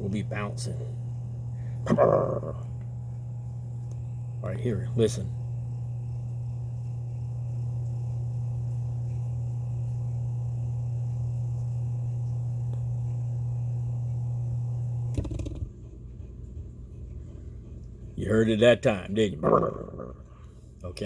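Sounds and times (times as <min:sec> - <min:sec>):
speaker motor humming: 0:00.0 - 0:21.0.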